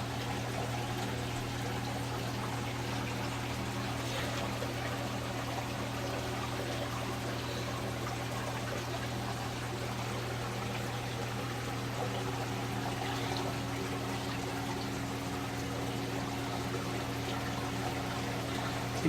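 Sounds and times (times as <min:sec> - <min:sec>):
circulating water trickling: 0:00.0 - 0:19.0
low pump hum: 0:00.0 - 0:19.0.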